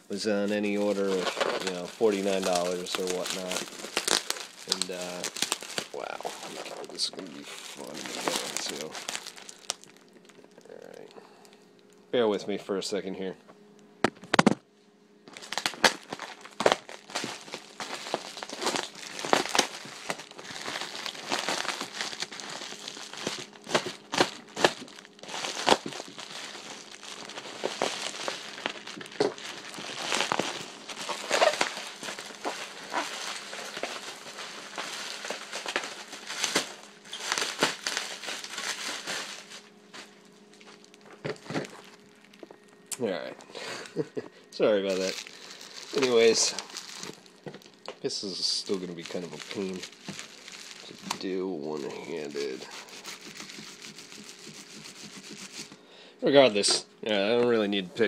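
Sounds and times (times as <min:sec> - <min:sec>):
plastic wrap crinkling: 0:00.0 - 0:12.0, 0:15.2 - 0:55.8.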